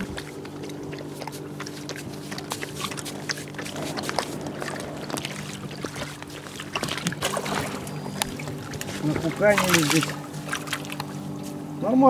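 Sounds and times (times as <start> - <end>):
small splashes and clicks: 0.0 - 11.2
water sloshing and trickling: 0.0 - 11.7
low motor hum: 0.0 - 12.0.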